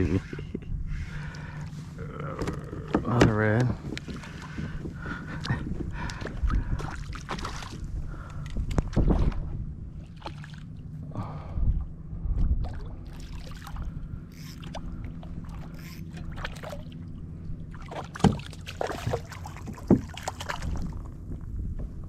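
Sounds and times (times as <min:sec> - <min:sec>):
wind and water against hull: 0:00.0 - 0:22.0.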